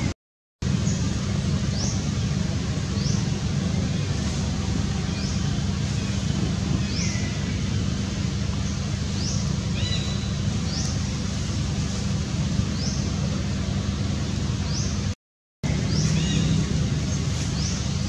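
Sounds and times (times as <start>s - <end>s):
wind rumble on microphone: 0.0s - 15.1s.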